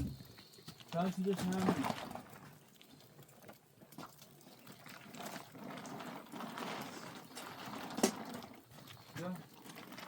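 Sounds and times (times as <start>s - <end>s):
liquid pouring: 0.0s - 10.0s.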